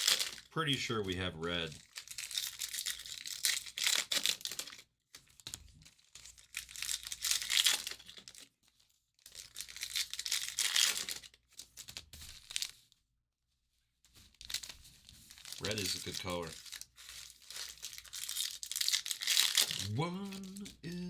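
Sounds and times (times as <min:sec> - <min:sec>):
foil wrappers tearing and crinkling: 0:00.0 - 0:00.5, 0:01.5 - 0:08.6, 0:09.2 - 0:13.0, 0:14.1 - 0:21.0.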